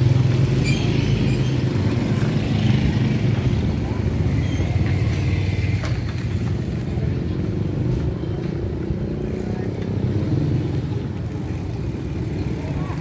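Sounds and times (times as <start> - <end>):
low rumble of traffic: 0.0 - 13.0
small motorcycle engines passing: 0.0 - 13.0.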